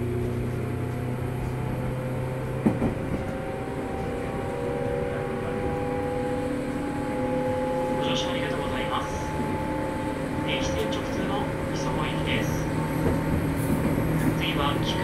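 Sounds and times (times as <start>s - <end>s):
train motor hum: 0.0s - 15.0s
train wheels rumbling: 0.0s - 15.0s.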